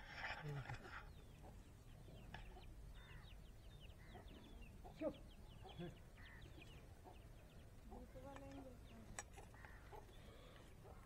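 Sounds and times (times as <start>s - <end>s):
bird clucks: 0.1s - 11.0s
faint bird chirping: 0.2s - 11.0s.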